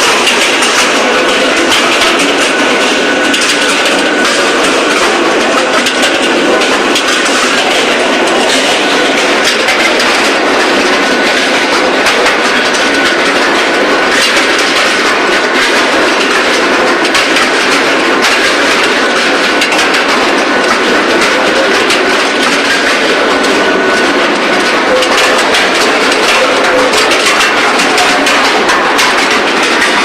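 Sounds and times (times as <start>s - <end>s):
clanks and knocks: 0.0s - 30.0s
steady mechanical din: 0.0s - 30.0s.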